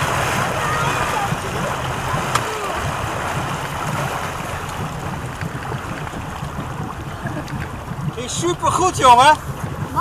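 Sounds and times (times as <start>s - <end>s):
boat engine running: 0.0s - 10.0s
water rushing along hull: 0.0s - 10.0s.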